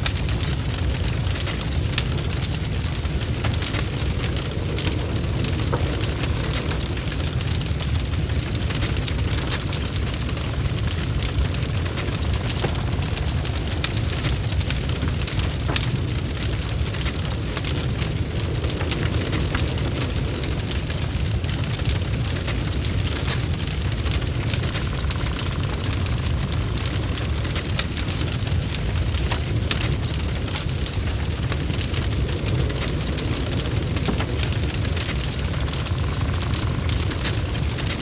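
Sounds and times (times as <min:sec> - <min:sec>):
bonfire crackling: 0:00.0 - 0:38.0.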